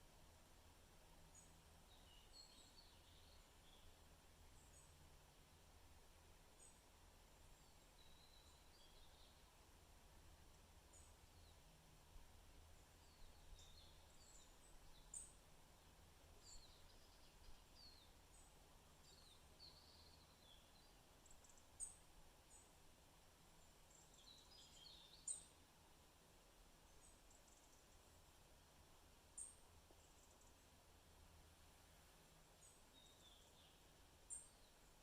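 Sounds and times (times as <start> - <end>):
soft low background rumble: 0.0 - 35.0.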